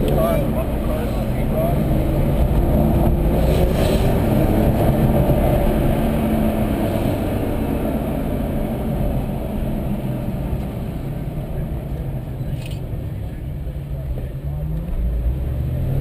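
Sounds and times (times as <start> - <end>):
car engine running: 0.0 - 14.9
road noise rumble: 0.0 - 16.0.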